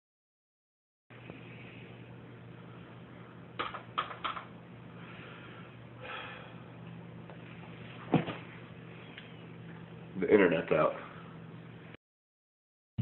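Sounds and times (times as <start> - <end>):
low steady hum: 1.1 - 12.0.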